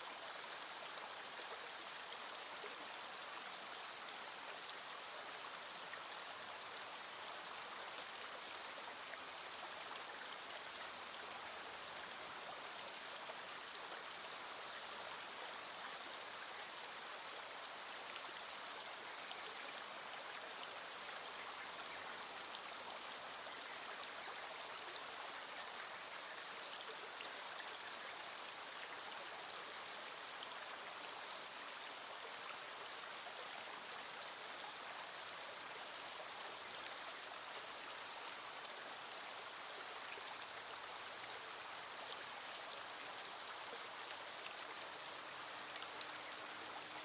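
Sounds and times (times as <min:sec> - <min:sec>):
small stream flowing: 0:00.0 - 0:47.0.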